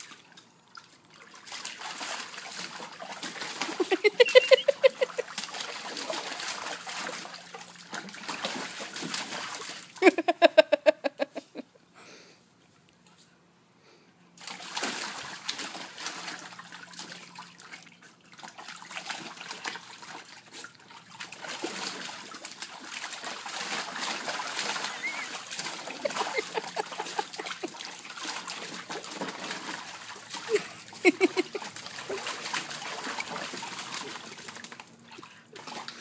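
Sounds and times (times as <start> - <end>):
puppy splashing in water: 0.0 - 10.1, 14.4 - 36.0.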